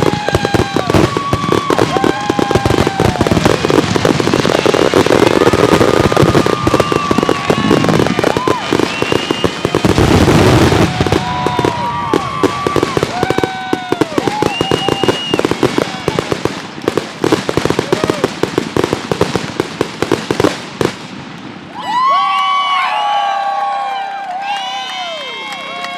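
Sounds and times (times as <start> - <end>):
fireworks crackling: 0.0 - 22.7
whistling fireworks: 0.0 - 23.8.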